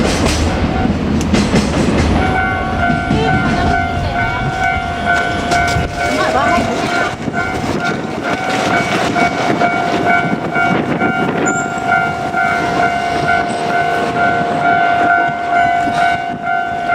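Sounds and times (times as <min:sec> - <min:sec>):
train wheels clattering on rails: 0:00.0 - 0:16.9
level crossing warning bell: 0:02.2 - 0:16.9.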